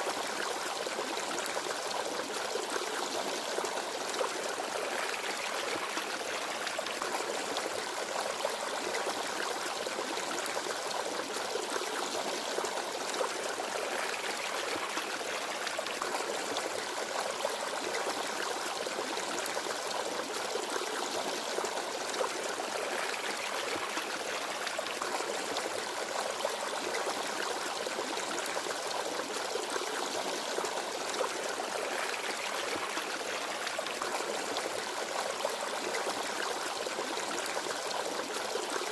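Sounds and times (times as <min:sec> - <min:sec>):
forest stream babbling over stones: 0:00.0 - 0:38.9.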